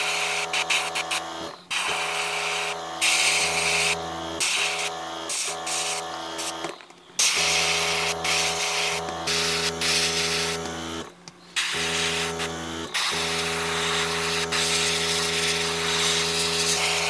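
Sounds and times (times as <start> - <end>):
compressor motor hum: 0.0 - 17.0
airbrush air hiss: 0.5 - 6.6, 7.2 - 10.6, 11.6 - 17.0.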